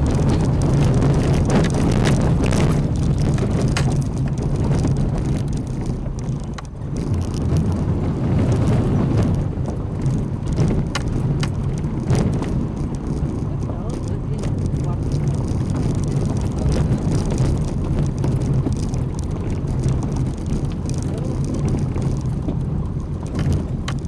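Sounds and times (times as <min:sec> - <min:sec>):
engine and road rumble: 0:00.0 - 0:24.0
knocks and rattles from bumps: 0:00.0 - 0:24.0.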